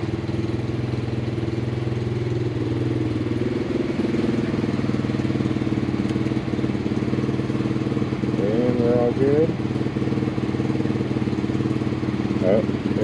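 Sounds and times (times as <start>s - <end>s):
small motorcycle engines idling: 0.0s - 13.0s.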